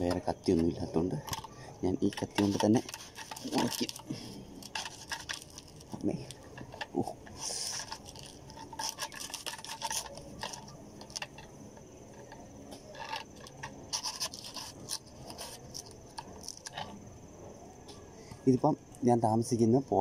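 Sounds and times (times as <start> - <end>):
crickets droning: 0.0 - 20.0.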